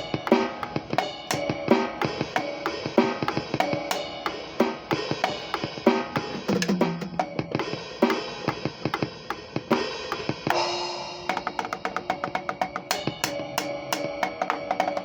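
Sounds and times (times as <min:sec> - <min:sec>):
drum kit playing: 0:00.0 - 0:15.0.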